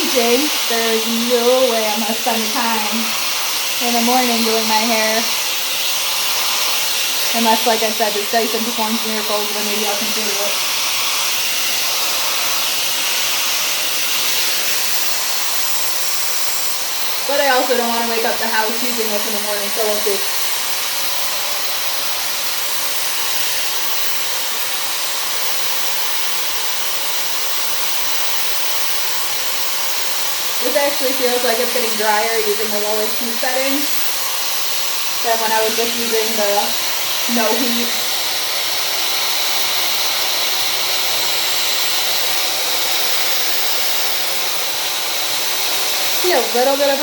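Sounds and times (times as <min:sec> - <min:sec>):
hair dryer blowing air: 0:00.0 - 0:47.0.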